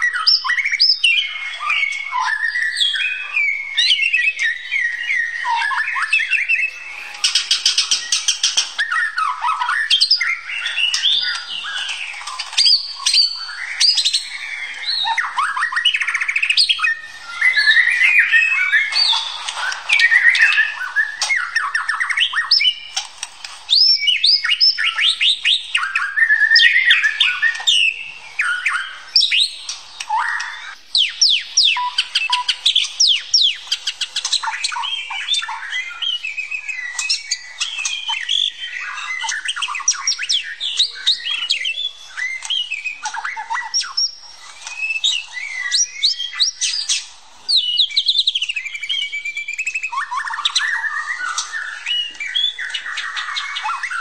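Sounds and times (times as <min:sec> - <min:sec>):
songbird singing whistled phrases: 0:00.0 - 0:54.0.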